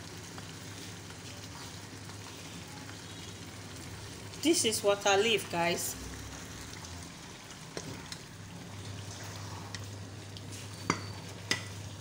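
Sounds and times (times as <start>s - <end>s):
soup simmering with sizzling hiss: 0.0s - 12.0s.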